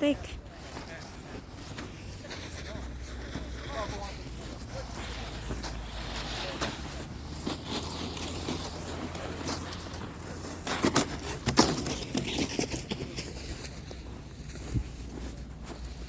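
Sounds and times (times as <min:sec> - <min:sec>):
footsteps crunching in snow: 0:00.0 - 0:16.0.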